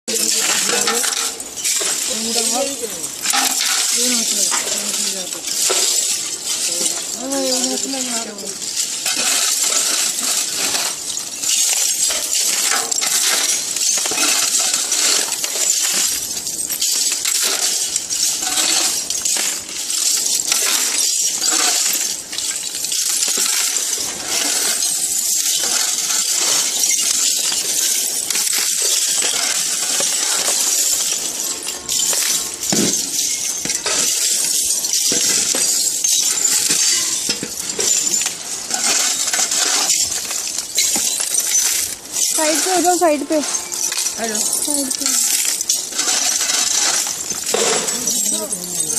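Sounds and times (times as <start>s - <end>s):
metal scrap rattling and clinking: 0.1s - 48.9s
shovel scooping metal scrap: 0.2s - 48.9s.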